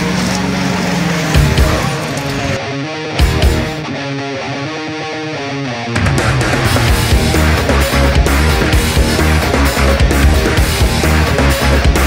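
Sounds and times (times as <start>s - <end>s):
heavy rock music: 0.0s - 12.0s.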